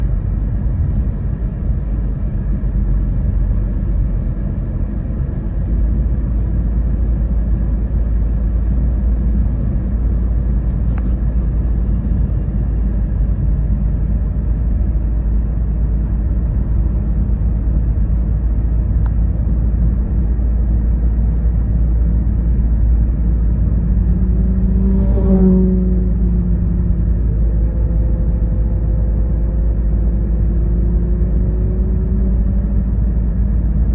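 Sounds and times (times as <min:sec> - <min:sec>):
car engine and tyre rumble: 0:00.0 - 0:33.9.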